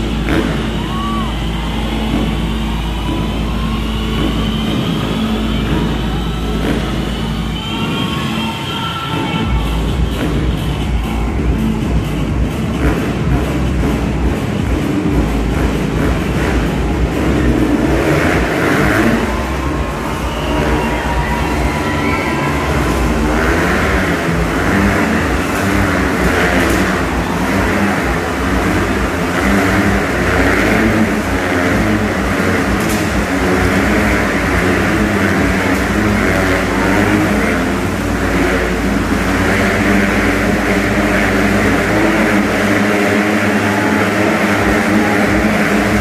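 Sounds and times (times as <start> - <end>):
motorcycle engines revving: 0.0 - 46.0.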